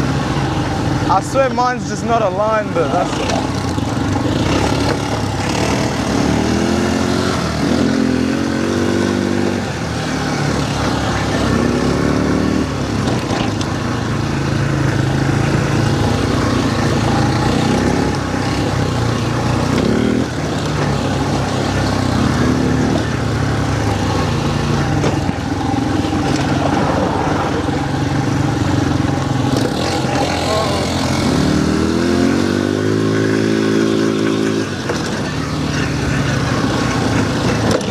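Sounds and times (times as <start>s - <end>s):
quad bike engine running: 0.0s - 37.9s.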